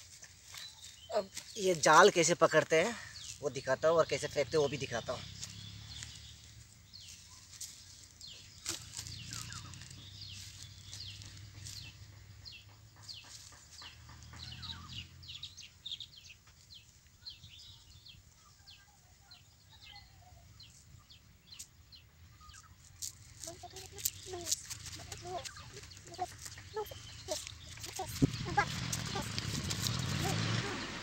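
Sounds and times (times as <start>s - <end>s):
small birds chirping faintly: 0.0s - 31.0s.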